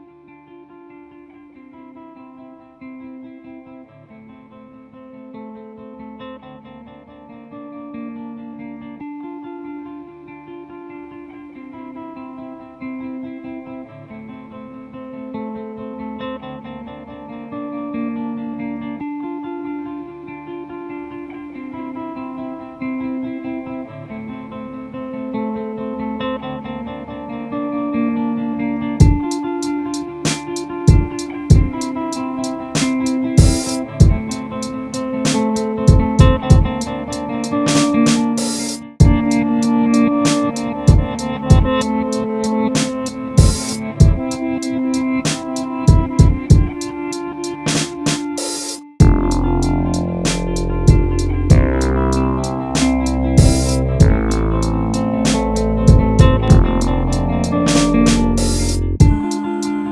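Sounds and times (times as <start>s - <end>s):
acoustic guitar music: 0.0s - 59.9s.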